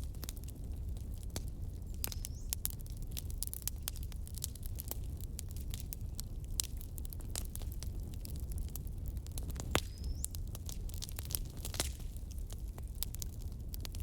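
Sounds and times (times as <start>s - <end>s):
burning logs crackling and popping: 0.0s - 14.0s
fire flames rumbling: 0.0s - 14.0s.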